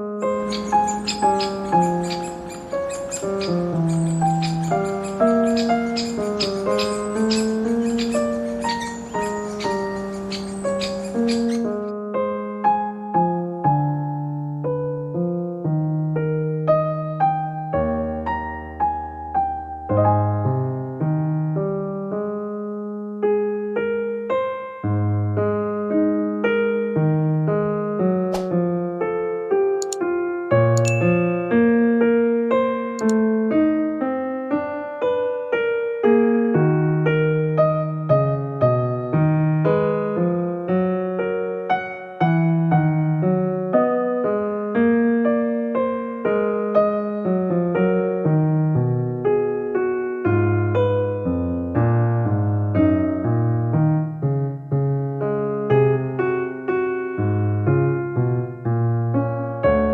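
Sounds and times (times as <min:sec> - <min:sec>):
soft piano music: 0:00.0 - 0:59.9.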